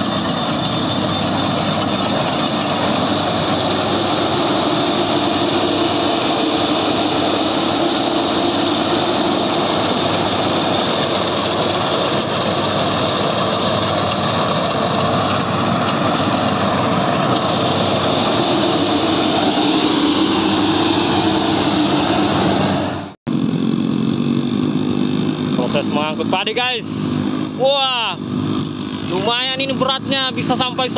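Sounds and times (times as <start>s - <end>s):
combine harvester drone: 0.0s - 30.9s.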